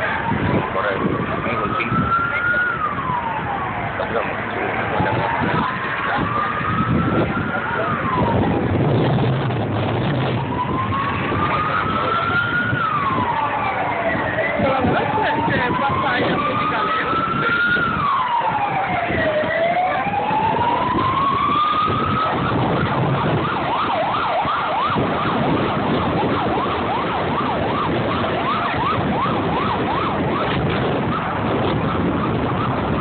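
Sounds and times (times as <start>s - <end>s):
city traffic noise: 0.0s - 33.0s
emergency vehicle siren: 0.0s - 33.0s.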